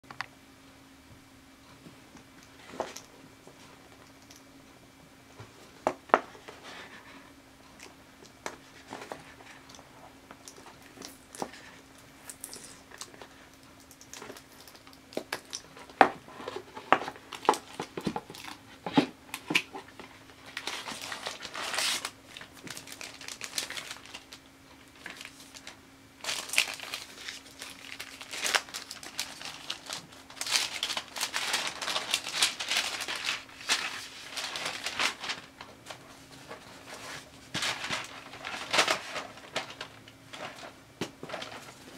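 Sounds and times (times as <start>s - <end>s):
paper crinkling and rustling: 5.4s - 41.9s.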